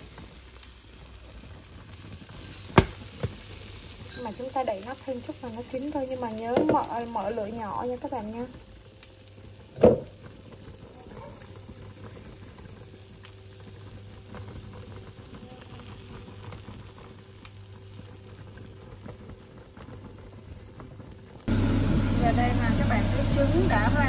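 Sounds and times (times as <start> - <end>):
food crackling and bubbling in a pan: 0.0 - 24.0.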